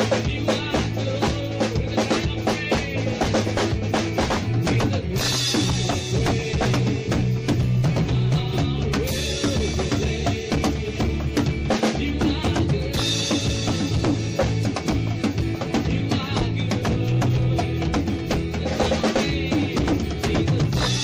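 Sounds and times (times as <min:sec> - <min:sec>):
band music: 0:00.0 - 0:21.0
kick and snare beat: 0:00.0 - 0:21.0.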